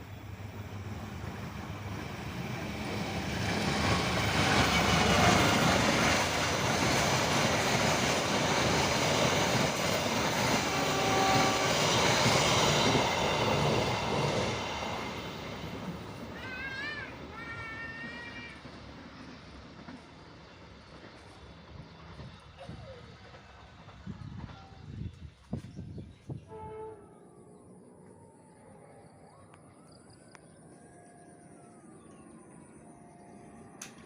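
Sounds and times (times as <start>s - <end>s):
train rumbling past on rails: 0.0s - 34.0s.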